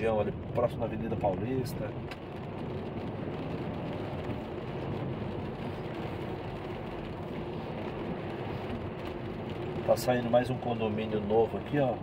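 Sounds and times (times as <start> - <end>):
tyres on wet asphalt: 0.0 - 12.0.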